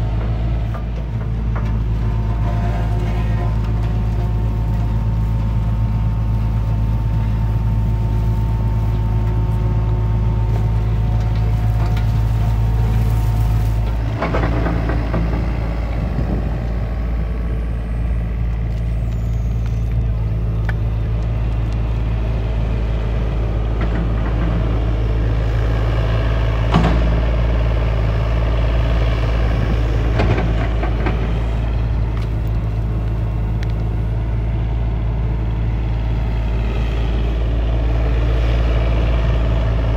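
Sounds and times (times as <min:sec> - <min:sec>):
excavator diesel engine running: 0:00.0 - 0:39.9
hydraulics working: 0:00.0 - 0:39.9.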